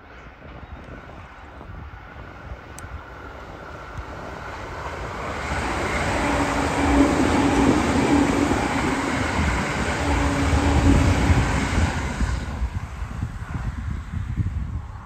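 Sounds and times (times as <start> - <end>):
electric train hum: 0.0 - 15.0
train wheels rumbling on rail: 0.0 - 15.0.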